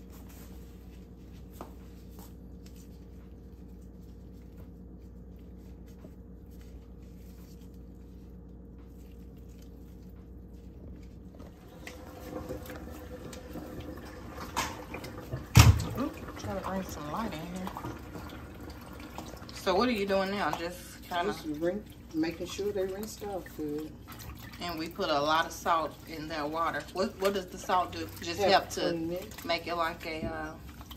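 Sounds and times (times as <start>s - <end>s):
steady low hum: 0.0s - 30.9s
wet squishing of hands: 0.0s - 30.9s.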